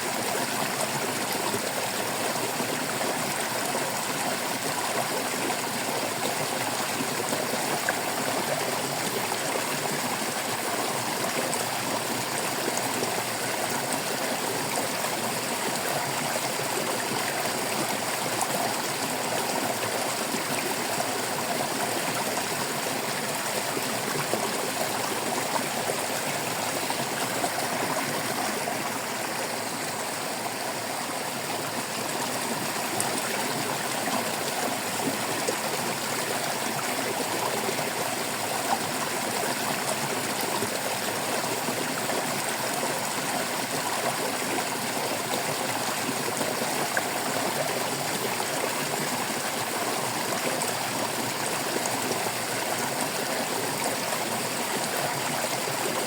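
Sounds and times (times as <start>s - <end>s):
water babbling over rocks: 0.0s - 56.0s.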